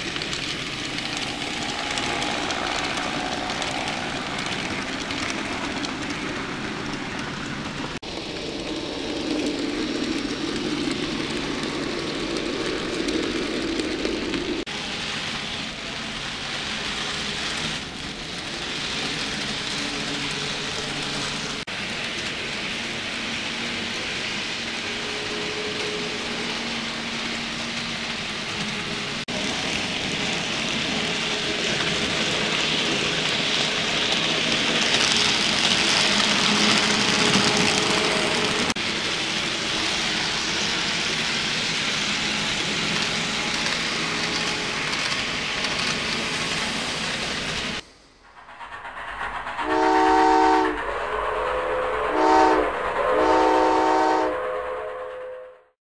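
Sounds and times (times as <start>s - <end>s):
model train wheels hissing on rails: 0.0s - 55.4s.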